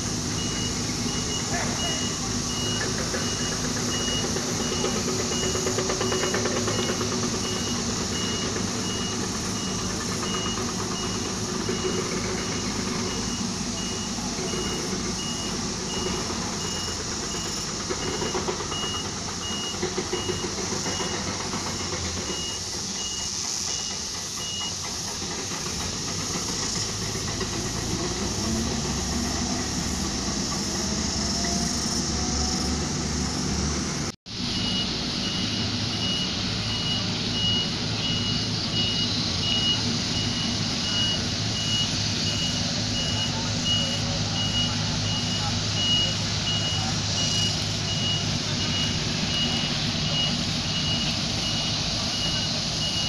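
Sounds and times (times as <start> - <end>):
reversing alarm beeping: 0.0 - 32.8, 34.4 - 53.0
diesel engine running: 0.0 - 53.0.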